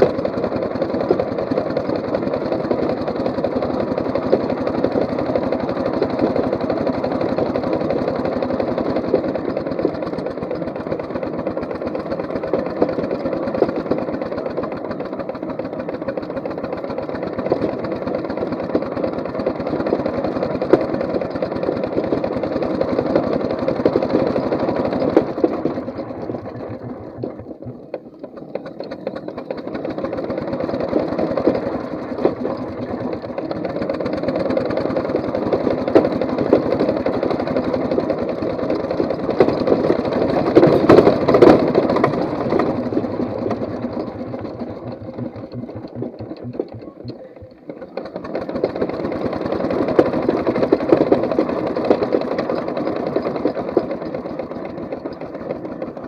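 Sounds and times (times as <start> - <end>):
model steam engine running: 0.0 - 56.0.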